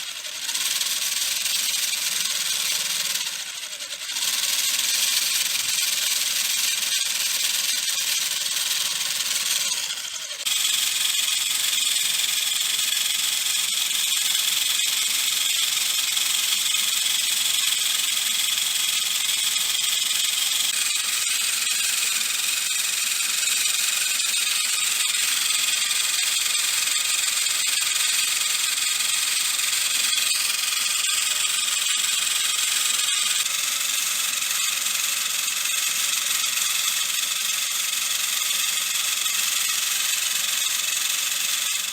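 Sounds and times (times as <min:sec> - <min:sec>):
small electric motor whining: 0:00.0 - 0:41.9.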